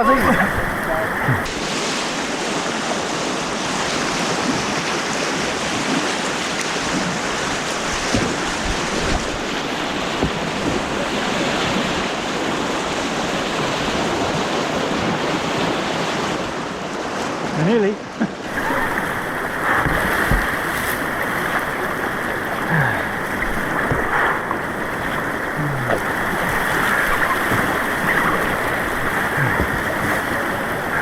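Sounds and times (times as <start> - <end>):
white water rushing: 0.0 - 17.4, 18.4 - 31.0.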